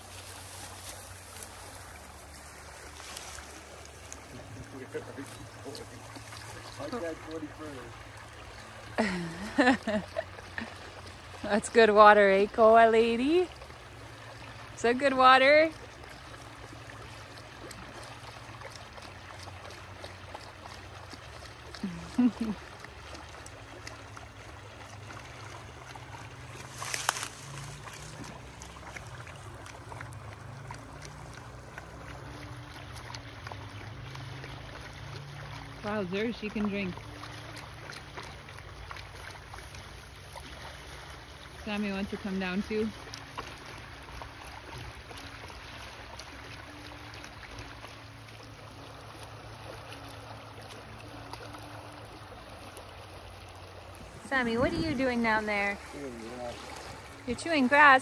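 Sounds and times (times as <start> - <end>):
creek trickling over stones: 0.0 - 58.0
low steady rumble: 0.0 - 58.0.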